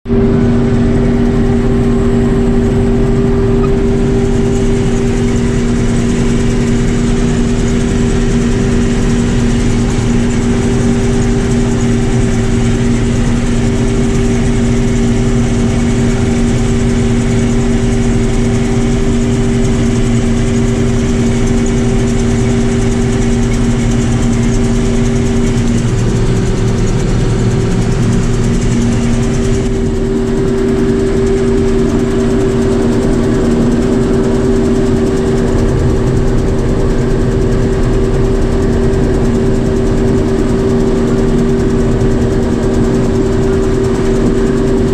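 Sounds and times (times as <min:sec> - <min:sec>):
combine harvester droning: 0:00.1 - 0:44.9.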